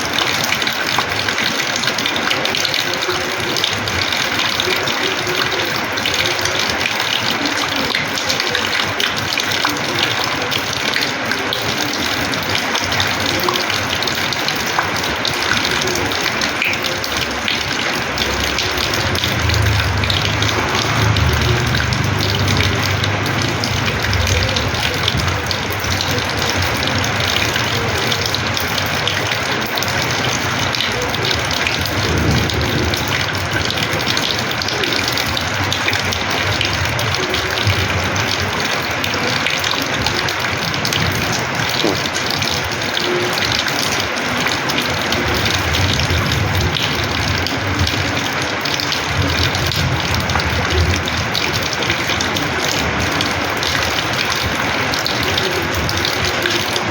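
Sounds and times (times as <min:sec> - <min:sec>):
heavy rain: 0:00.0 - 0:56.9
runoff water gushing: 0:00.0 - 0:56.9.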